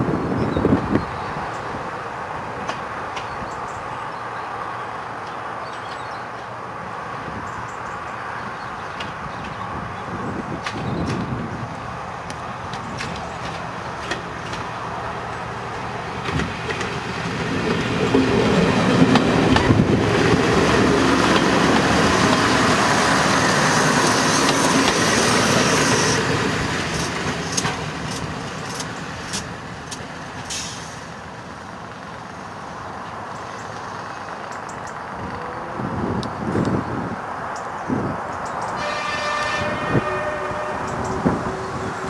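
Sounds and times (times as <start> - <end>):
diesel train passing: 0.0 - 42.0.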